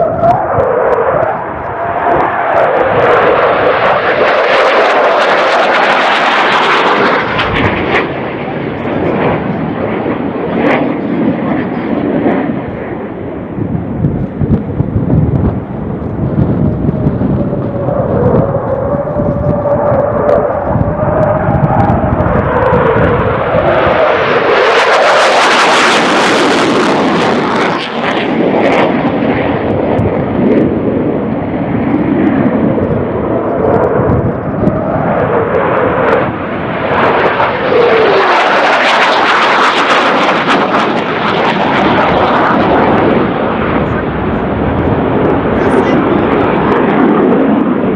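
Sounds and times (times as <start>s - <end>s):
fighter jet engines roaring past: 0.0s - 47.9s
jet whine sliding down in pitch: 0.0s - 47.9s.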